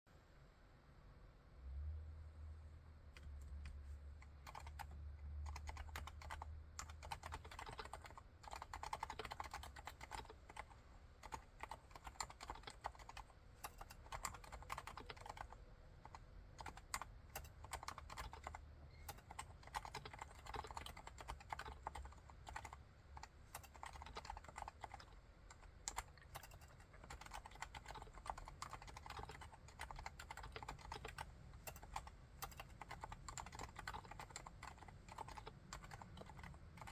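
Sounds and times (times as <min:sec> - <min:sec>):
soft keyboard typing: 0:03.1 - 0:36.9.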